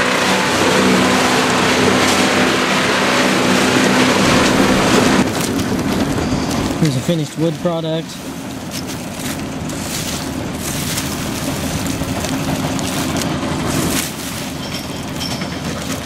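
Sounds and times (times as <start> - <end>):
broad rushing noise: 0.0 - 16.0
large diesel engine running: 0.0 - 16.0.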